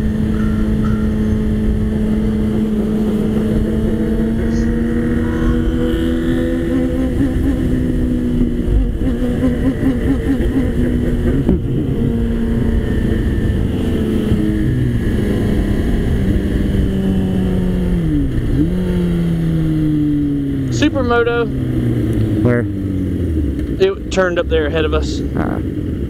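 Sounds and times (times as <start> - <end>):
heavy wind rush: 0.0 - 26.0
motorcycle engine cruising: 0.0 - 26.0.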